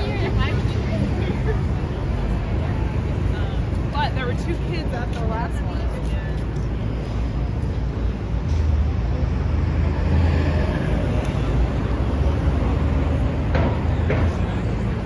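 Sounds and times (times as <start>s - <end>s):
city street traffic: 0.0s - 15.0s
vehicle engine rumbling: 0.0s - 15.0s.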